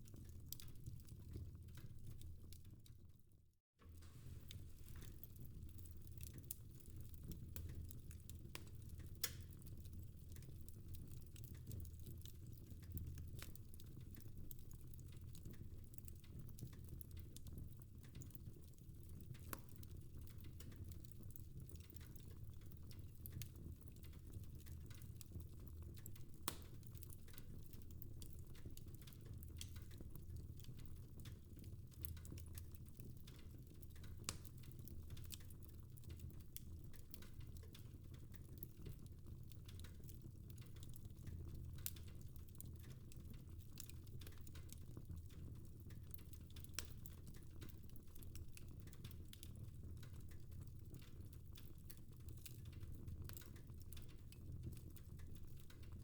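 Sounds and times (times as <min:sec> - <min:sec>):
fire crackling: 0:04.0 - 0:55.9.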